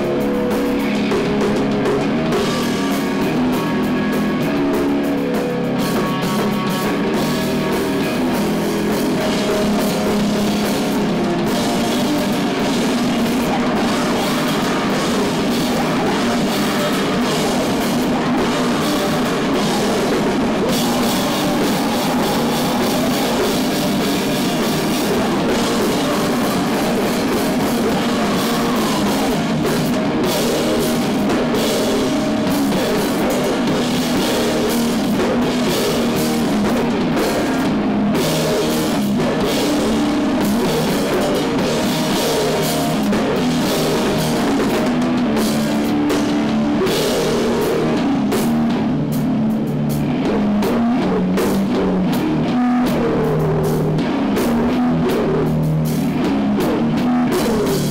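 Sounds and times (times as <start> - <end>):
drum kit with cymbals: 0.0 - 57.9
electric guitar: 0.0 - 57.9.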